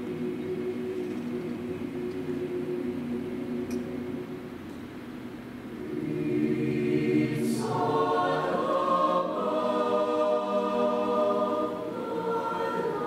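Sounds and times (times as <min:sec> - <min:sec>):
mixed choir singing chords: 0:00.0 - 0:04.7, 0:05.6 - 0:13.0.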